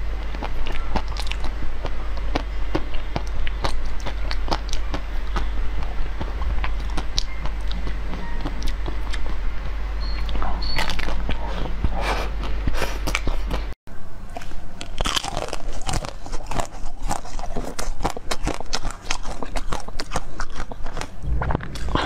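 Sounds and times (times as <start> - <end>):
crunchy chewing of frozen sweets: 0.0 - 22.0.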